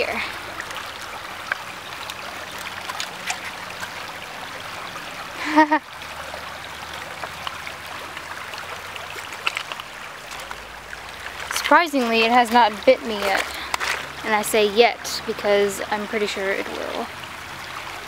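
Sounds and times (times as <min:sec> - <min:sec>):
water trickling over stones: 0:00.0 - 0:18.0.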